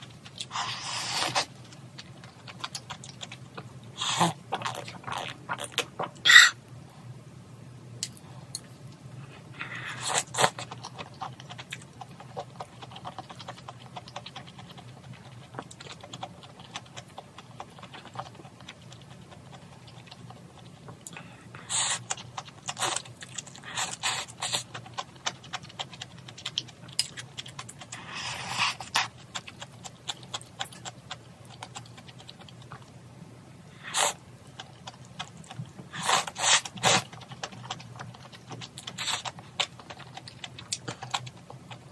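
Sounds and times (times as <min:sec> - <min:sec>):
low steady hum: 0:00.0 - 0:41.9
chewing: 0:00.2 - 0:06.6, 0:09.6 - 0:33.0, 0:33.8 - 0:41.9.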